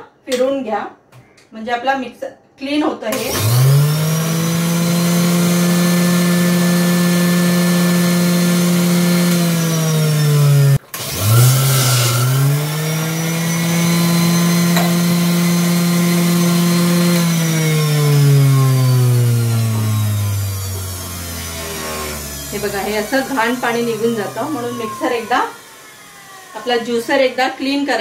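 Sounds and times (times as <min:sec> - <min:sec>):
juicer motor whining: 0:03.2 - 0:28.0.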